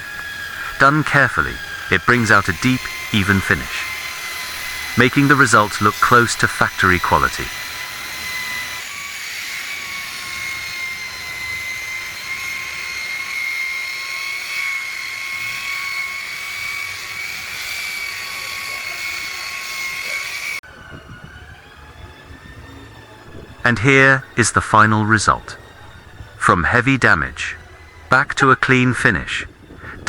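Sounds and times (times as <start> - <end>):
paint polisher whining: 0.0 - 30.0.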